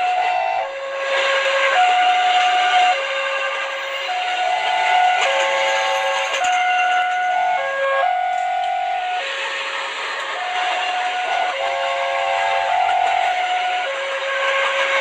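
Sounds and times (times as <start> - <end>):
toy train whistle tones: 0.0 - 9.5, 10.3 - 15.0
steam-like hiss: 0.0 - 15.0.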